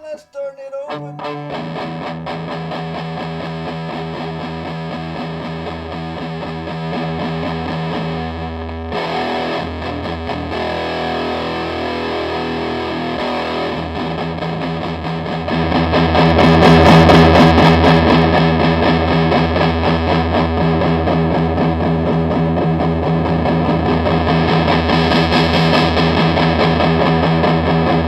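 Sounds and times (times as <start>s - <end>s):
distorted electric guitar: 0.0s - 28.0s.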